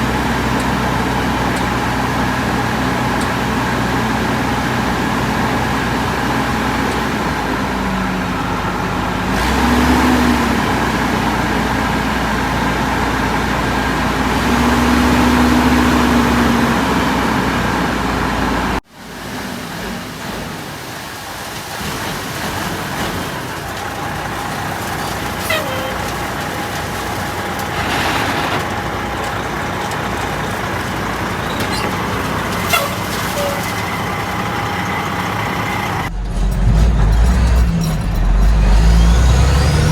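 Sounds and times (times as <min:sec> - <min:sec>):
heavy truck engine running: 0:00.0 - 0:39.9
road noise: 0:00.0 - 0:39.9.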